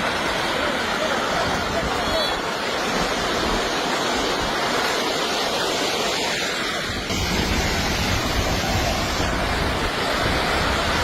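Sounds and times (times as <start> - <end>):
fast-moving water rushing: 0.0 - 11.0.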